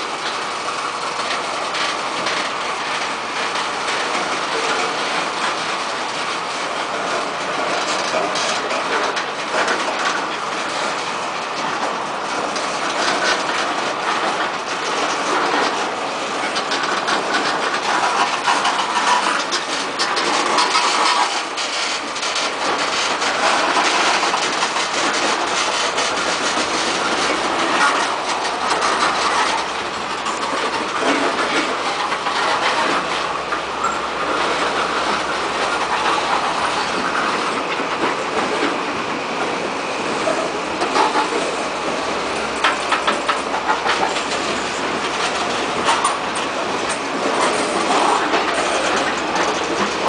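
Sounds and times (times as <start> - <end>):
train cars rolling past: 0.0 - 50.0
wheels clacking over rail joints: 0.0 - 50.0.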